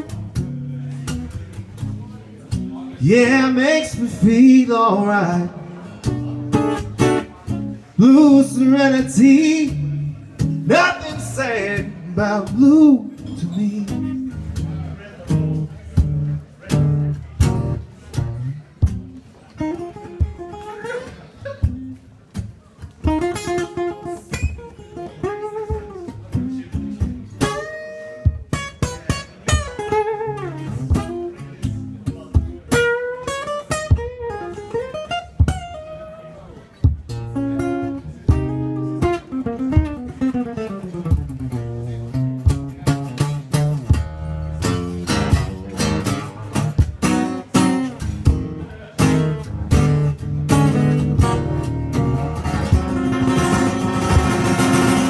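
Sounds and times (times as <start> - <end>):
acoustic guitar plucked and strummed: 0.0 - 55.0.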